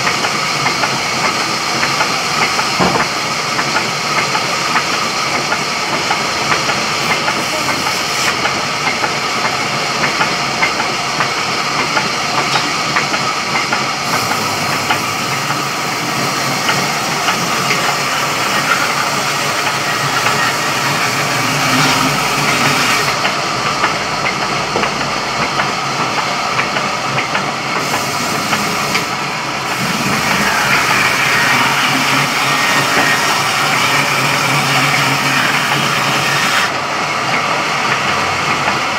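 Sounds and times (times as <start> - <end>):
sawmill saw running: 0.0 - 38.9.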